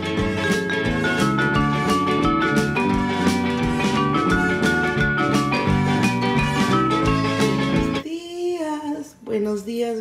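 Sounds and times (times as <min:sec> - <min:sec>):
background music with steady beat: 0:00.0 - 0:08.0.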